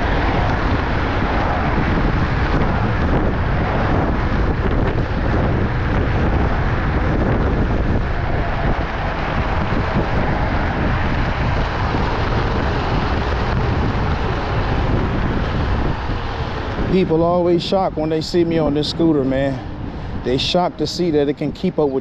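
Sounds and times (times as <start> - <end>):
road noise: 0.0 - 22.0
wind rushing over microphone: 0.0 - 22.0.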